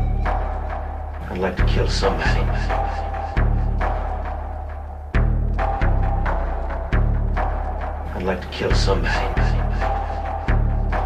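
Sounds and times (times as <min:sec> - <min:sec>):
droning low bass: 0:00.0 - 0:11.0
hardcore techno track: 0:00.0 - 0:11.0
heavy distorted kick drum: 0:01.3 - 0:11.0.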